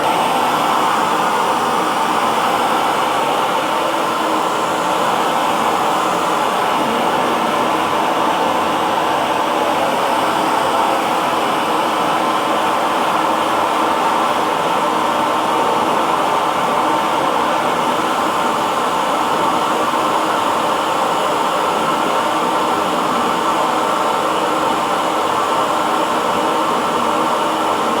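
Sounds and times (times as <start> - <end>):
hair dryer running: 0.0 - 28.0.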